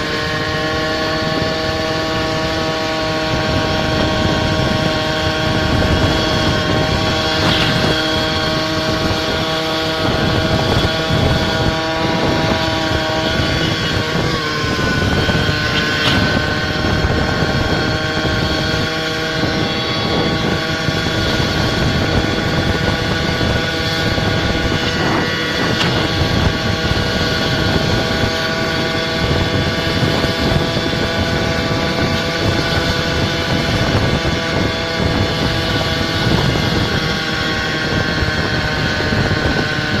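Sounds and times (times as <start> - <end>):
scooter engine running: 0.0 - 40.0
wind buffeting microphone: 0.0 - 40.0.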